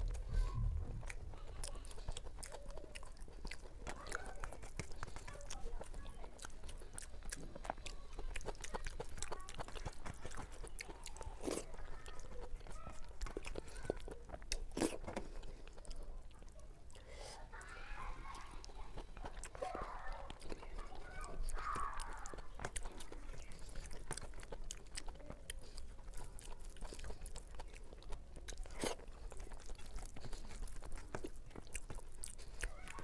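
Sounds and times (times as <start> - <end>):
chewing crisp fried food: 0.0 - 33.0.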